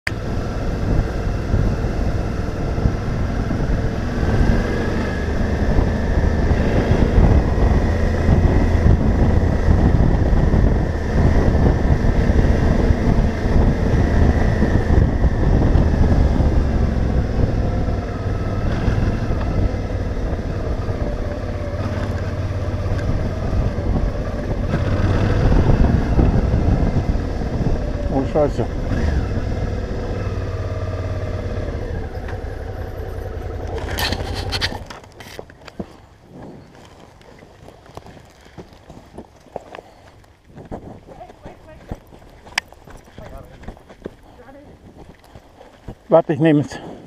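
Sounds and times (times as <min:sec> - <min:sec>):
motorcycle engine running: 0:00.1 - 0:38.8, 0:41.2 - 0:45.8.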